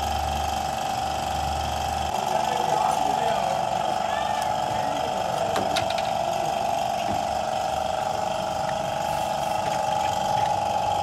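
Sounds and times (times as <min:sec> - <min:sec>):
machine droning: 0:00.0 - 0:11.0.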